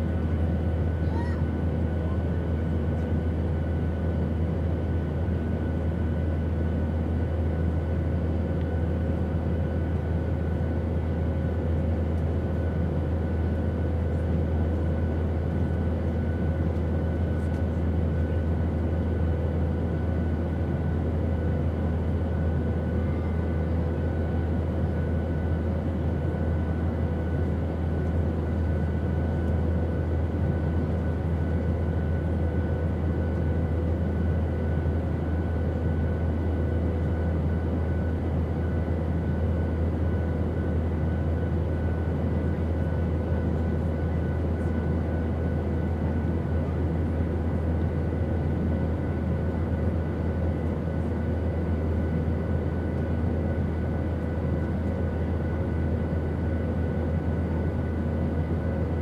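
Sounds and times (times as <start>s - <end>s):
airplane deep rumble: 0.0s - 59.0s.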